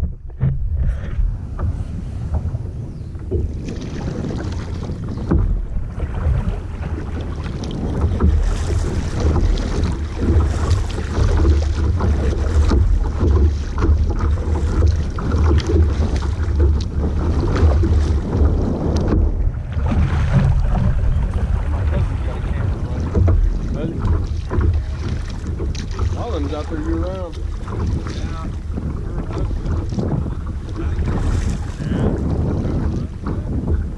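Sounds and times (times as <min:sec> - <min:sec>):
kayak paddle splashing water: 0:00.0 - 0:33.9
wind buffeting microphone: 0:00.0 - 0:33.9.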